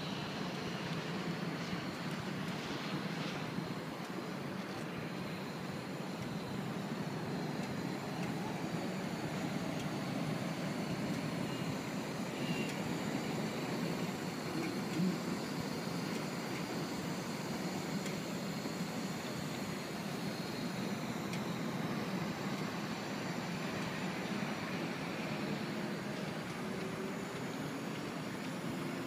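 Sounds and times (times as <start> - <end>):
low rumble of city traffic: 0.0 - 29.0.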